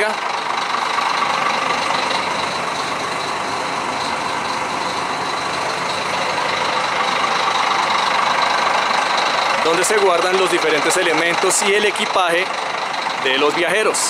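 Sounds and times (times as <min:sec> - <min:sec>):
diesel bus engine idling: 0:00.0 - 0:14.0.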